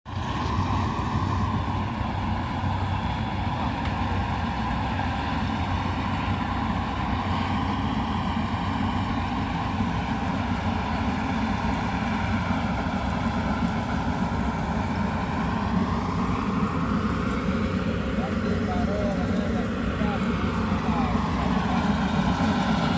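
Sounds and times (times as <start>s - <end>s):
combine harvester diesel engine running: 0.0s - 22.9s.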